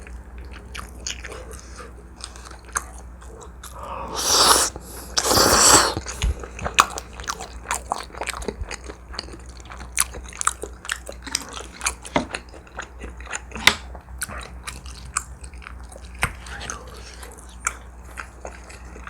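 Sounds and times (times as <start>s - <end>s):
person chewing food: 0.4s - 19.0s.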